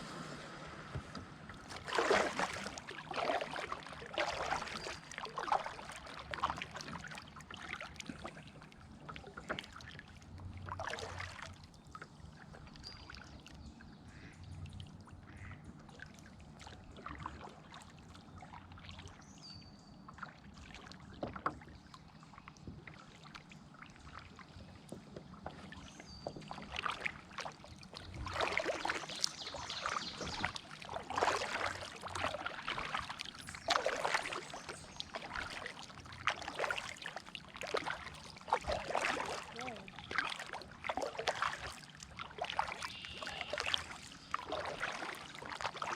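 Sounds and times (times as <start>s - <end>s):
paddle strokes splashing in water: 0.0s - 13.3s, 15.0s - 19.1s, 20.2s - 45.9s.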